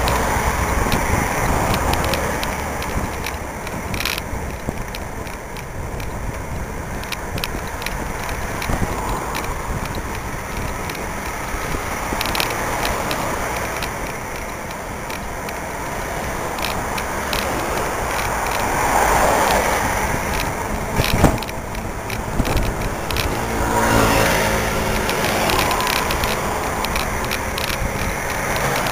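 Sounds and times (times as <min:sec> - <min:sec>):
passing traffic: 0:00.0 - 0:28.9
road noise: 0:00.0 - 0:28.9
vehicle engine: 0:00.0 - 0:28.9.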